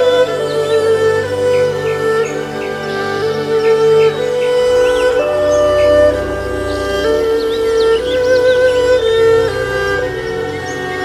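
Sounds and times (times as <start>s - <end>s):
flute-like wind instrument: 0.0s - 11.0s
sustained accompaniment: 0.0s - 11.0s.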